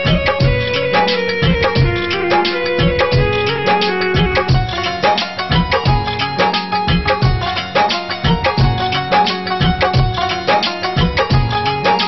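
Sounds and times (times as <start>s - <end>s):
drums with deep bass strokes: 0.0s - 12.0s
held melody line: 0.0s - 12.0s.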